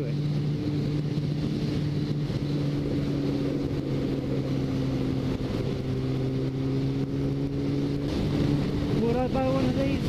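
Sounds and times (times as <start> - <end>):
motorcycle engine cruising: 0.0 - 10.0
wind rush: 0.0 - 10.0.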